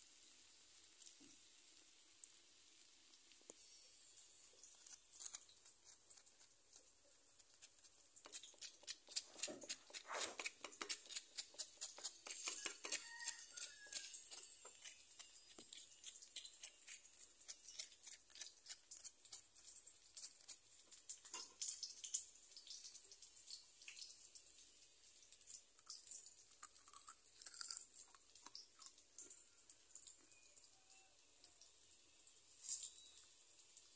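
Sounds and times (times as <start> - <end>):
crisp fried food crackling: 0.0 - 30.7, 31.3 - 33.9.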